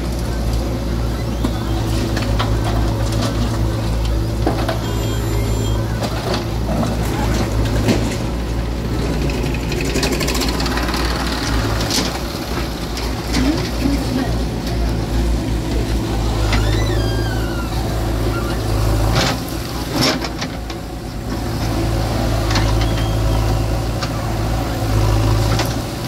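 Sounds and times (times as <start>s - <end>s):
diesel engines droning: 0.0s - 26.0s.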